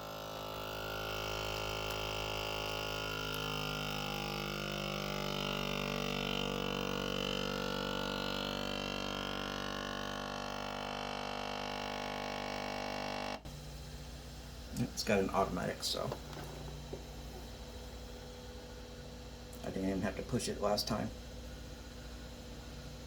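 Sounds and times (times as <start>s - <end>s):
vacuum sealer pump humming: 0.0s - 23.0s.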